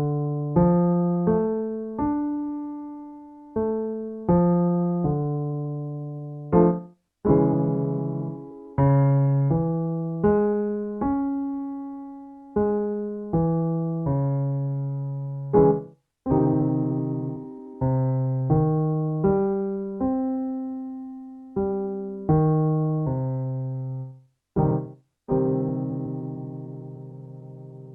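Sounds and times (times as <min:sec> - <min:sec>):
piano playing minor arpeggios: 0:00.0 - 0:27.9.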